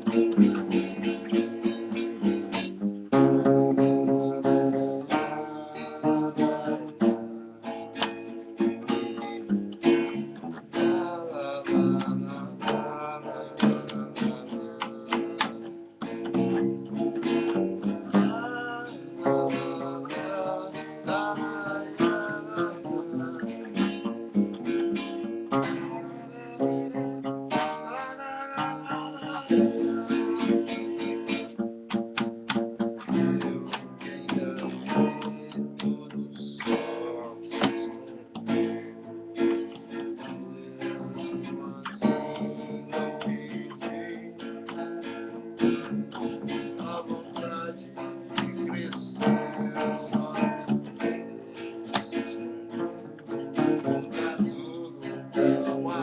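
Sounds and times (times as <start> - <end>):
acoustic bass guitar: 0.0 - 56.0
acoustic guitar samba rhythm: 0.0 - 56.0.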